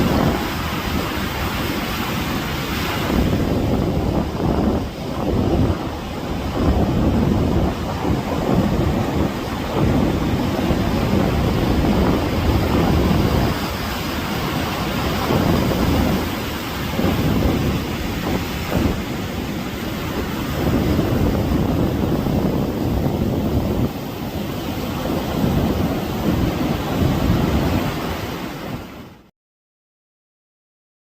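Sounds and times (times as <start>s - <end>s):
ocean waves breaking on beach: 0.0s - 29.3s.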